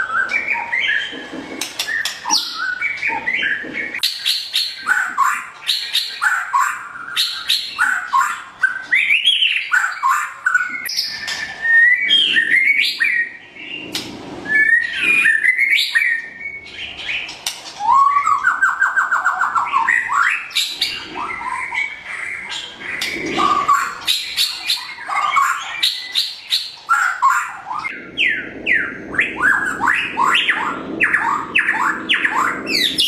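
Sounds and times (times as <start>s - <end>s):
bird singing whistled phrases: 0.0s - 13.8s, 14.4s - 16.9s, 17.8s - 33.0s.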